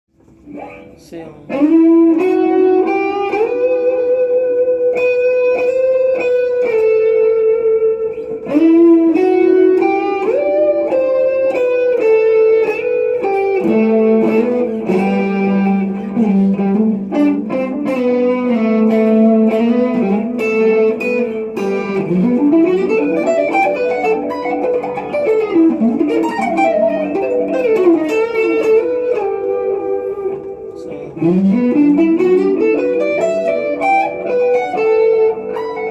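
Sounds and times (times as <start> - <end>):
electric guitar lead with bends: 0.1 - 35.9.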